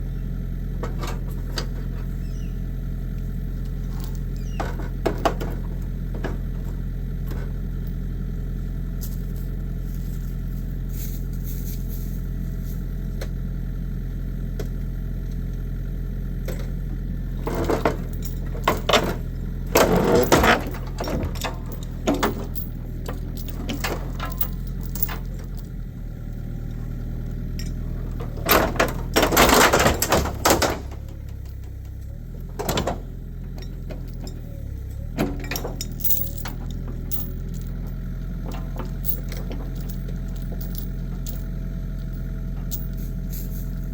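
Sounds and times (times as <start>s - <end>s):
excavator engine running: 0.0s - 43.9s
metal crunching and clanking: 0.7s - 2.4s, 3.0s - 13.4s, 16.3s - 43.9s.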